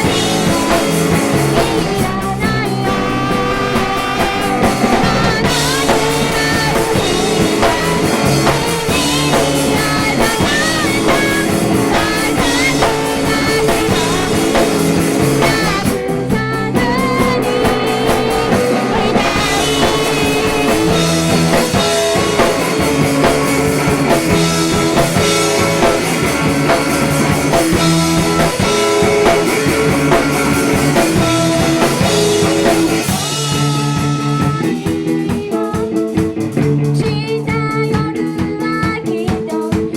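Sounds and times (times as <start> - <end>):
drum kit: 0.0 - 39.9
electric guitar: 0.0 - 39.9
woman singing: 0.0 - 39.9.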